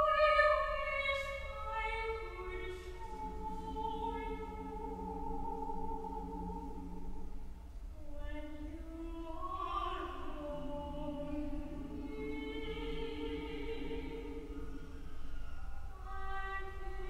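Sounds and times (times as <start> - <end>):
choir singing sustained notes: 0.0 - 17.0.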